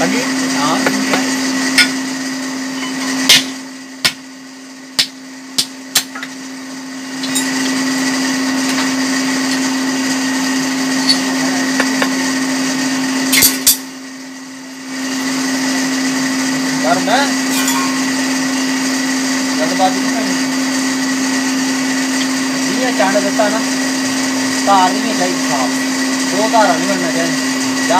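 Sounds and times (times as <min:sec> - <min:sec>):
electric blower humming: 0:00.0 - 0:27.9.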